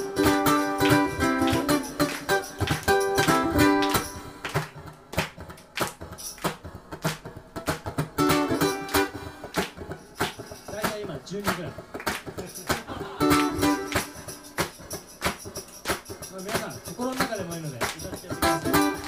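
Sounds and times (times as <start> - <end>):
sharp tapping beat: 0.0 - 19.0
ukulele melody with chords: 0.0 - 19.0.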